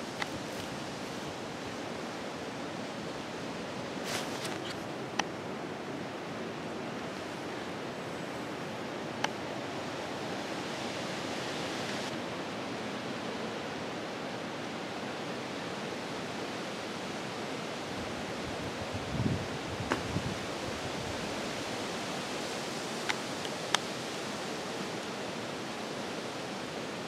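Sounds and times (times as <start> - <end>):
wind and rain rushing: 0.0 - 27.0.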